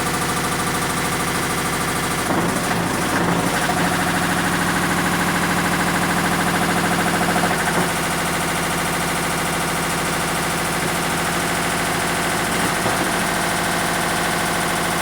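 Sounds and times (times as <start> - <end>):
washing machine spin cycle: 0.0 - 15.0.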